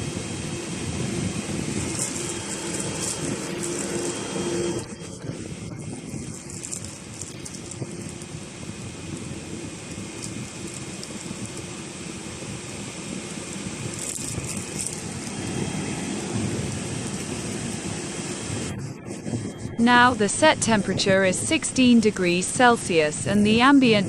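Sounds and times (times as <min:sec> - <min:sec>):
air conditioner blower rushing: 0:00.0 - 0:24.0.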